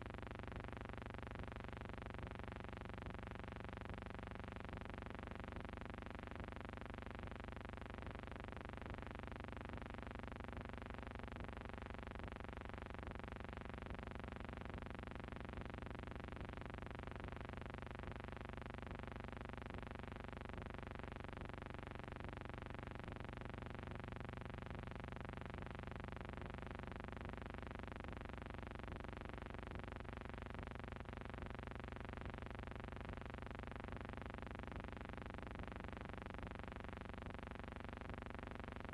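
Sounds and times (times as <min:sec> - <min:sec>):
droning hum of held tones: 0:00.0 - 0:38.9.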